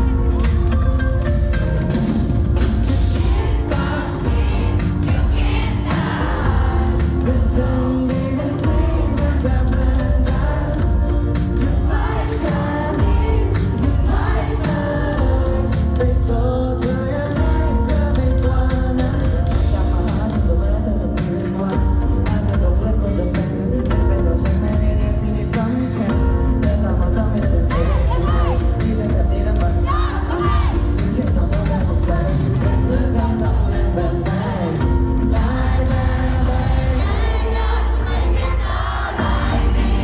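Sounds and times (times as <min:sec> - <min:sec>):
pop-rock band playing live: 0:00.0 - 0:40.0
man singing: 0:02.6 - 0:37.9.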